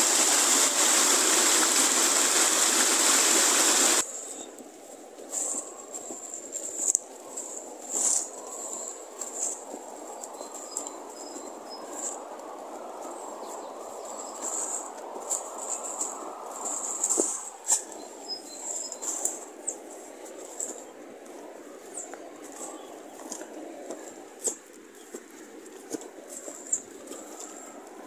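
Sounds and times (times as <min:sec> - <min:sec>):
footsteps through grass: 0:04.0 - 0:28.0.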